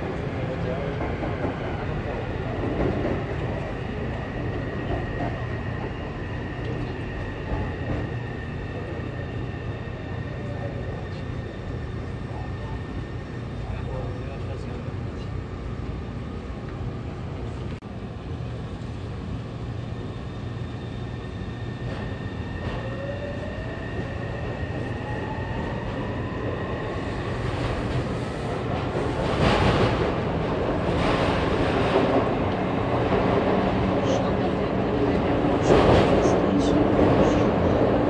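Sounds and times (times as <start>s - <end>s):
train running noise: 0.0s - 38.0s.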